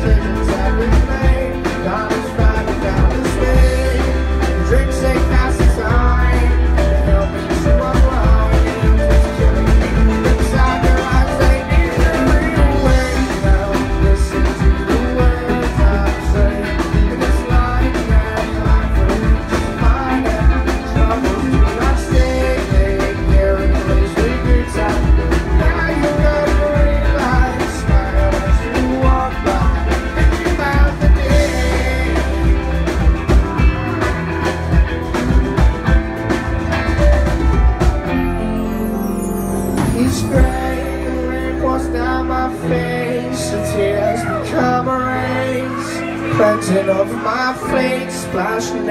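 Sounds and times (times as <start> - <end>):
drum kit: 0.0 - 48.9
electric guitar: 0.0 - 48.9.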